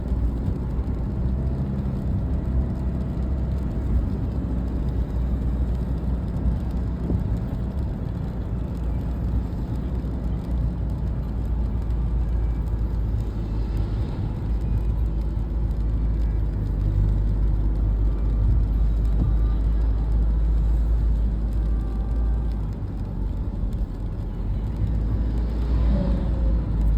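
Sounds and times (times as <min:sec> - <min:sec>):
vehicle driving low rumble: 0:00.0 - 0:26.9.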